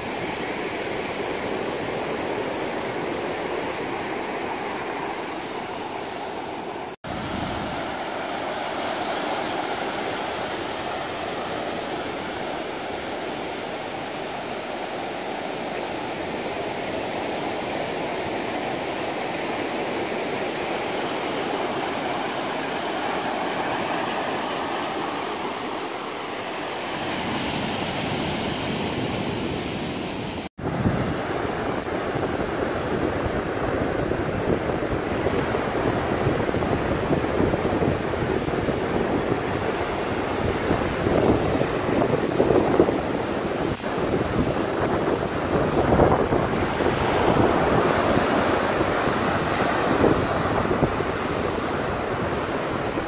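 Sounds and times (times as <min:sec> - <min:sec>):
waves washing on sandy beach: 0:00.0 - 0:53.0.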